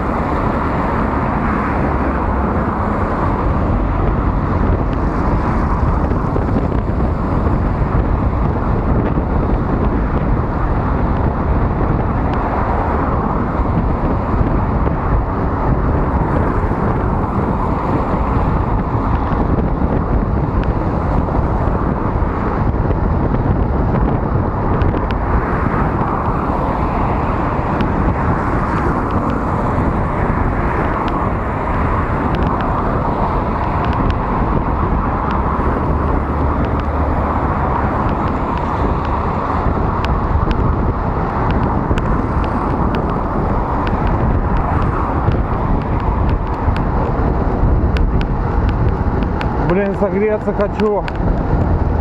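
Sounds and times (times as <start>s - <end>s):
passing traffic: 0.0s - 52.0s
wind rushing over microphone: 0.0s - 52.0s.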